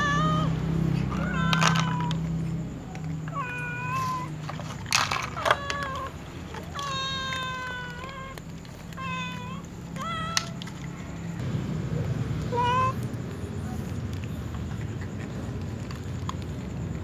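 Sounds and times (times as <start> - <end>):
cats meowing: 0.0 - 11.4, 12.0 - 16.6.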